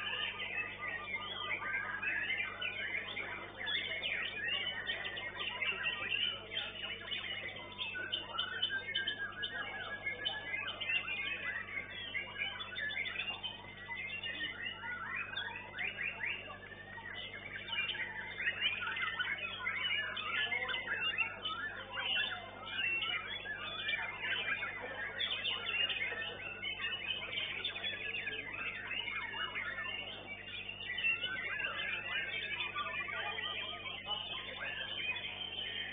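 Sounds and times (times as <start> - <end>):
songbirds singing: 0.0 - 35.9.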